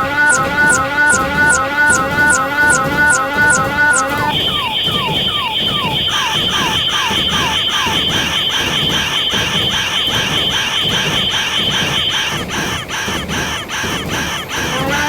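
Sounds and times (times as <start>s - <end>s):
steady high tone: 0.0s - 12.6s
railroad crossing bell strikes: 0.0s - 12.8s.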